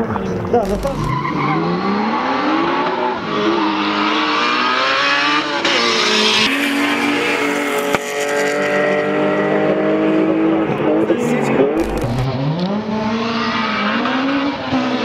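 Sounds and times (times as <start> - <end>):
racing car engine revving: 0.6 - 15.0.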